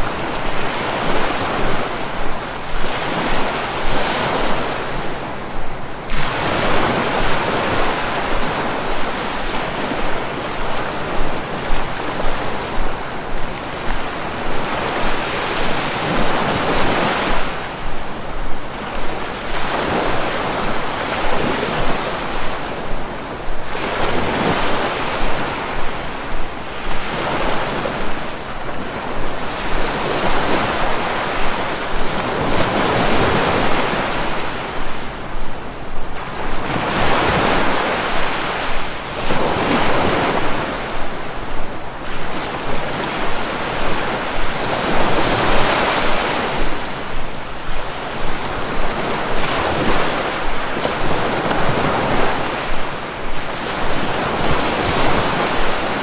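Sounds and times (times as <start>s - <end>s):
sea waves breaking on shore: 0.0s - 56.0s
wind on the microphone: 0.0s - 56.0s.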